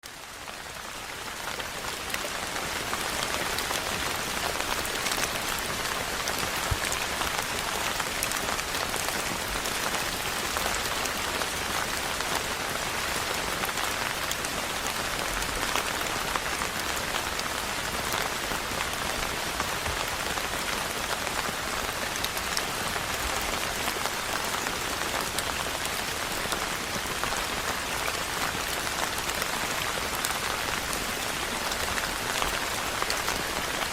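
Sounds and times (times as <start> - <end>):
rain on a rooftop: 0.0 - 33.9.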